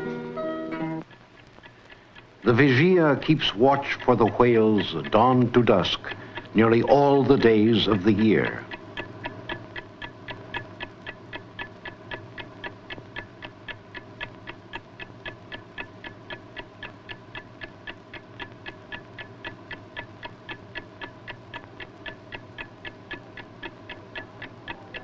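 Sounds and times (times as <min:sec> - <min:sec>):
faint steady hum: 0:00.0 - 0:25.0
clock ticking quickly: 0:01.0 - 0:25.0.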